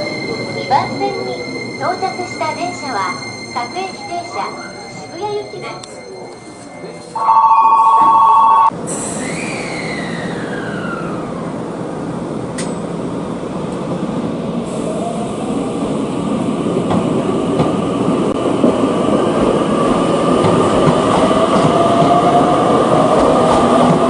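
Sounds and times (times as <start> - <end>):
train running noise: 0.0 - 24.0.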